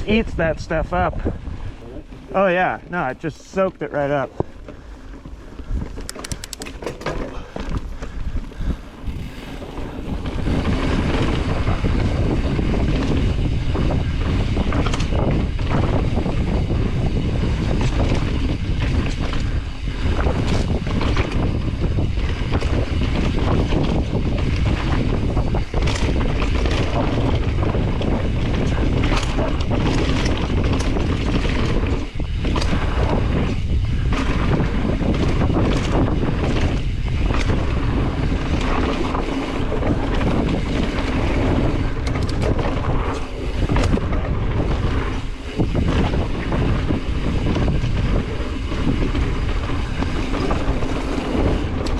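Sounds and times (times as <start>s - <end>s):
tyres rumbling on dirt: 0.0s - 51.9s
wind noise on microphone: 0.0s - 51.9s
bike knocking and rattling: 1.8s - 51.9s.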